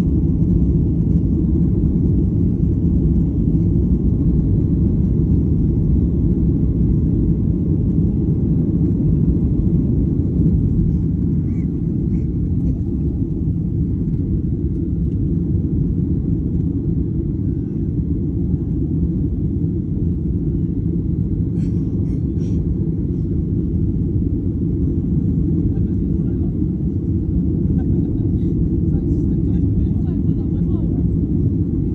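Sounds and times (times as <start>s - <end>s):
jet engine cabin rumble: 0.0s - 31.9s.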